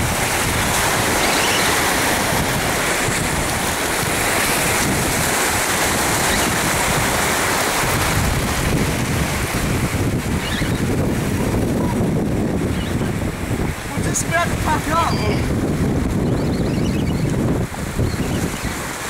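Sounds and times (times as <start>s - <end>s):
sea washing: 0.0s - 19.0s
wind noise on microphone: 0.0s - 19.0s.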